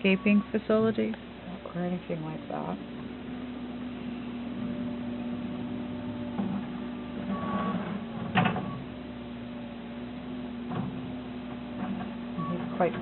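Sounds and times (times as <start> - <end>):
skid steer engine running: 0.0 - 13.0.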